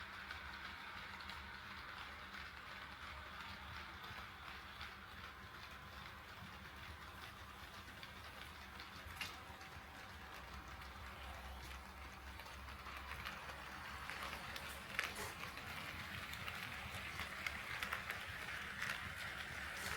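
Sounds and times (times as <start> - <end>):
model train wheels ticking: 0.0 - 19.9.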